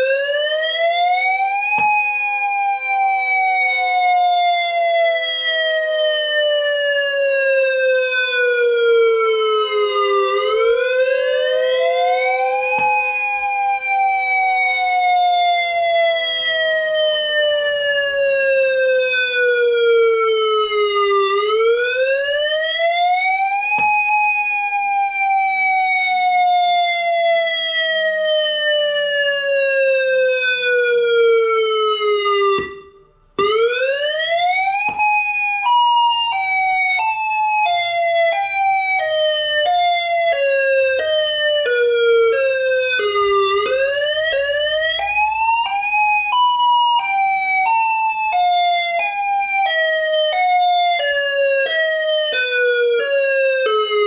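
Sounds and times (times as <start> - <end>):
electronic warning siren: 0.0 - 54.0.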